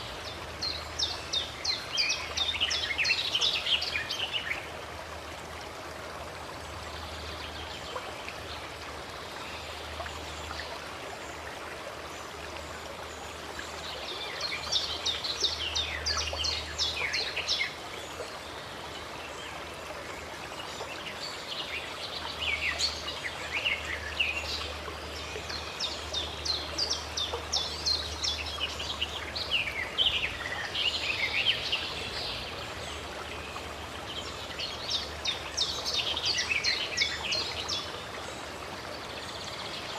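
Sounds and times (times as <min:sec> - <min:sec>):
running water rushing: 0:00.0 - 0:39.9
songbirds chirping: 0:06.5 - 0:39.9.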